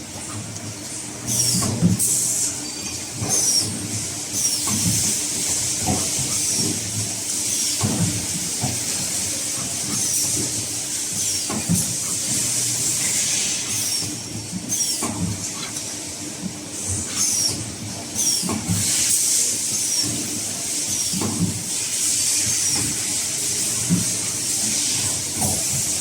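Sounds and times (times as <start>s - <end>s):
machine motor hum and hiss: 0.0s - 26.0s.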